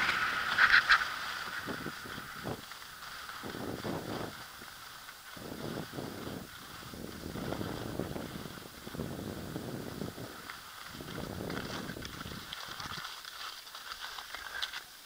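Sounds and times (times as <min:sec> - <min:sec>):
wind buffeting microphone: 0:00.0 - 0:13.1
hiss of movement across snow: 0:00.0 - 0:15.0.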